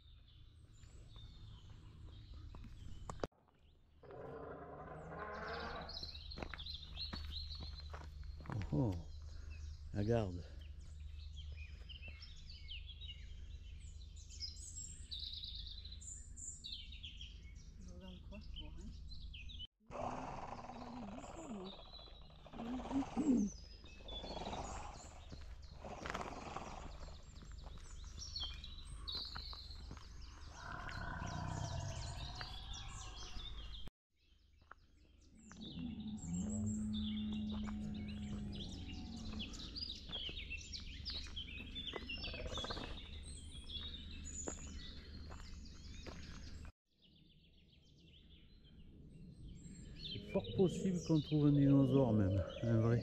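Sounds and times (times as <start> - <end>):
outdoor background noise: 0.0 - 53.0
small birds chirping: 0.0 - 53.0.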